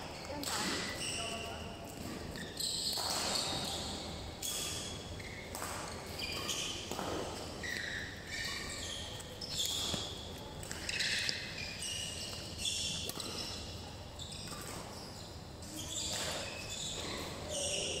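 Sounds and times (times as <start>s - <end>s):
shoe squeaks on court floor: 0.2s - 18.0s.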